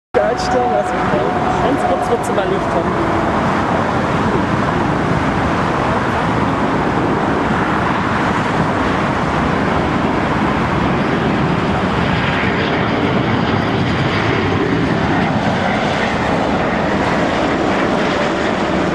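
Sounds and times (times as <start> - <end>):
jet engines rushing: 0.2 - 18.9.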